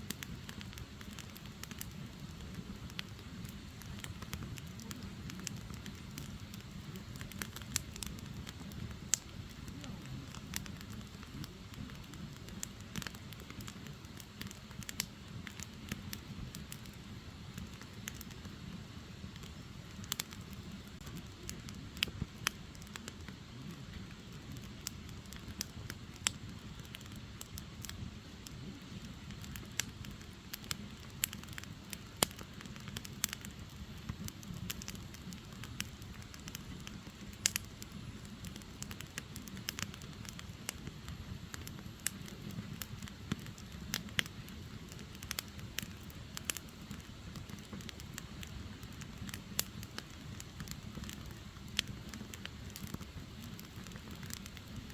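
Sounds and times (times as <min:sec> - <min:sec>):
firewood crackling and popping: 0:00.0 - 0:54.9
flames rushing: 0:00.0 - 0:54.9.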